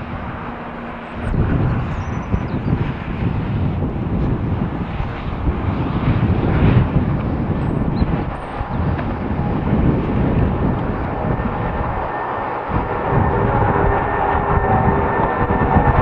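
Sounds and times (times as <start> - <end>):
jet engines rushing: 0.0 - 16.0
wind rumble on microphone: 0.0 - 16.0.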